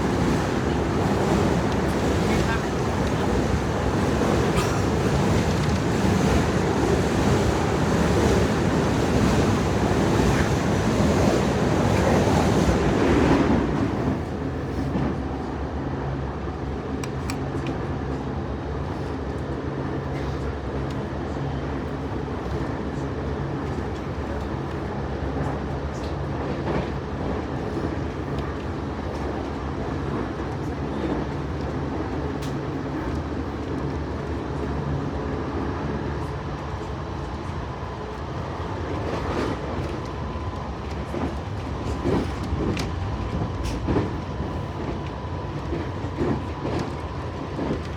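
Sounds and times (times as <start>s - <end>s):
train rumbling at speed: 0.0s - 47.9s.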